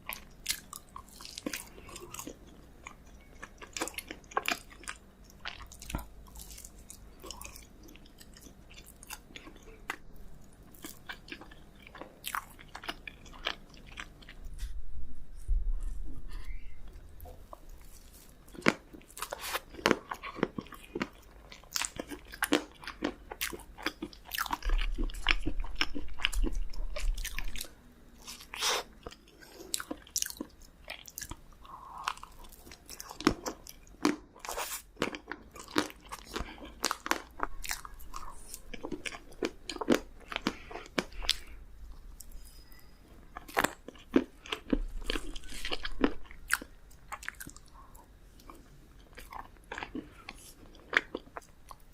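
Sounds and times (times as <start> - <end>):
chewing cake with crunches: 0.0 - 14.8, 15.8 - 51.9.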